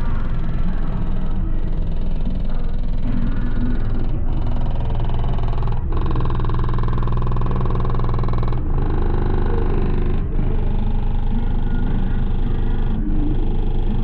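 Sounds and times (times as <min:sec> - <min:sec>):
bass-heavy music from car speakers: 0:00.0 - 0:14.0.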